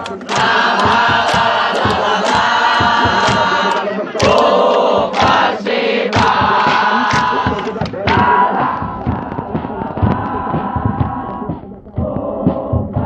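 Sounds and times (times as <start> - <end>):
crowd chanting and singing: 0.0 - 13.0
drum steady beat: 0.0 - 13.0.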